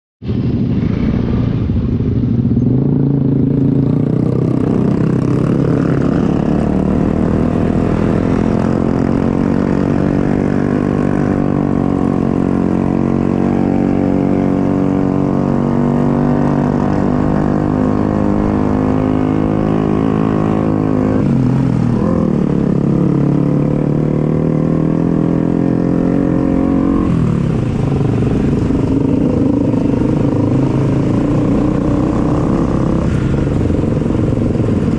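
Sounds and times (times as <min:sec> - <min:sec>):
motorcycle engine running: 0:00.2 - 0:34.9.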